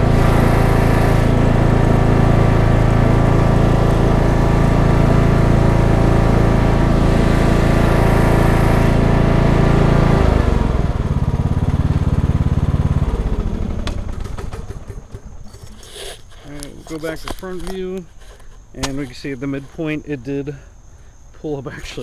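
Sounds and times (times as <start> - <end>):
riding mower engine running: 0.0 - 20.6.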